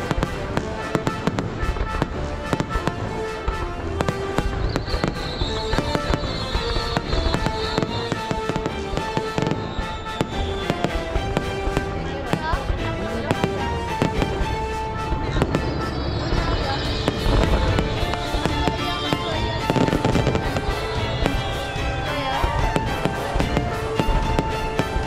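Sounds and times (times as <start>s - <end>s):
background music: 0.0s - 25.0s
fireworks bangs and crackles: 0.0s - 25.0s.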